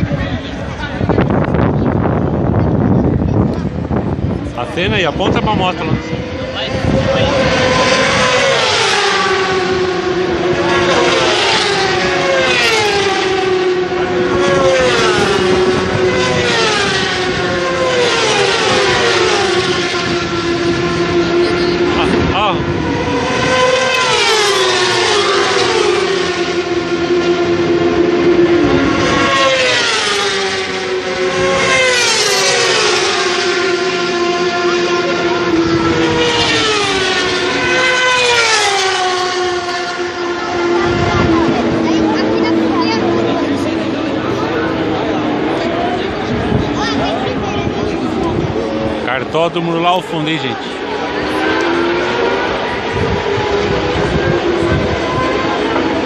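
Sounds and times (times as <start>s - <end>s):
racing motorbikes passing: 0.0s - 56.0s.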